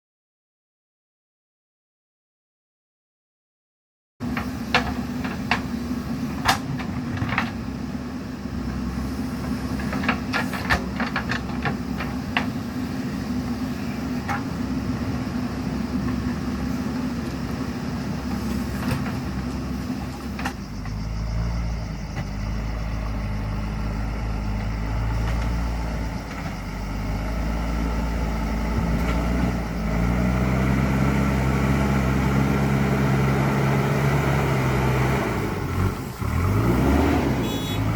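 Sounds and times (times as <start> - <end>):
diesel engine running: 4.2 - 37.9.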